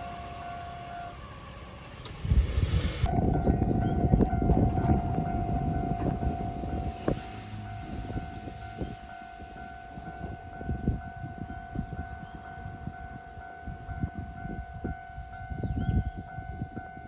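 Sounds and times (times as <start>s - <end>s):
level-crossing warning bell ringing: 0.0s - 2.1s, 3.0s - 17.0s
passing train rumble: 0.0s - 17.0s.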